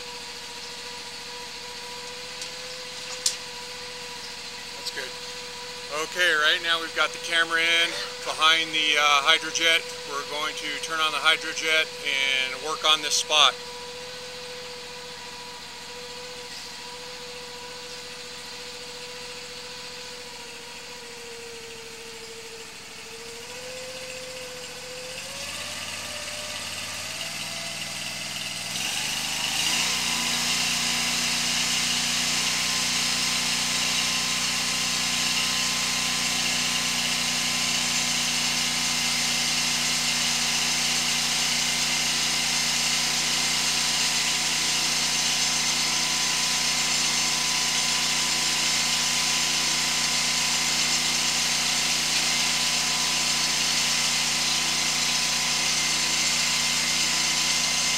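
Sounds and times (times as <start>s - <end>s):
engine idling and revving: 0.0s - 57.9s.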